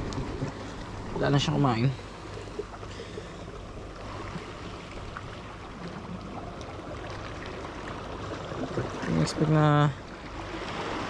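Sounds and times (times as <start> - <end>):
water washing at shore: 0.0 - 11.0.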